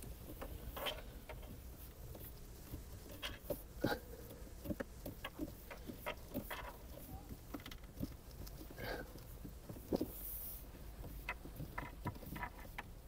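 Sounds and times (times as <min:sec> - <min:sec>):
small clicks and rustles: 0:00.0 - 0:13.0.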